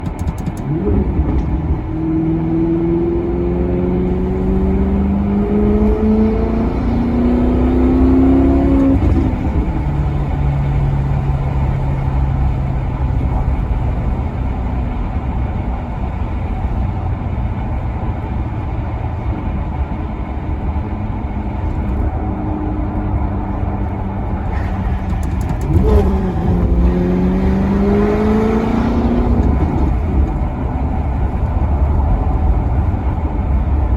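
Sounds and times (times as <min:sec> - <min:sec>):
car engine accelerating hard: 0:00.0 - 0:33.9
road rumble: 0:00.0 - 0:33.9.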